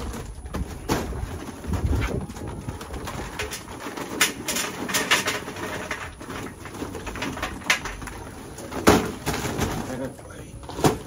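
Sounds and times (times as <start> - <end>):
charcoal clattering into metal: 0.0 - 11.0.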